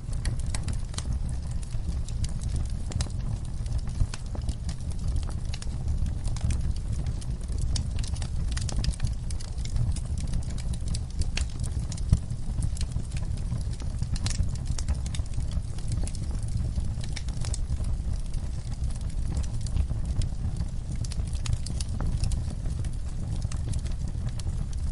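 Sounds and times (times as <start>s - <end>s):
wood fire crackling and popping: 0.0s - 24.9s.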